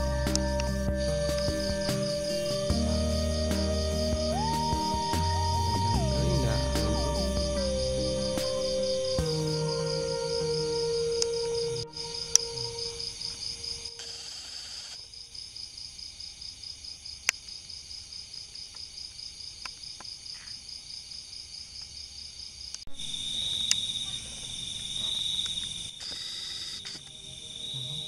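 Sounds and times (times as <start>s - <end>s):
cricket chirping: 0.0s - 28.0s
insect drone: 0.0s - 28.0s.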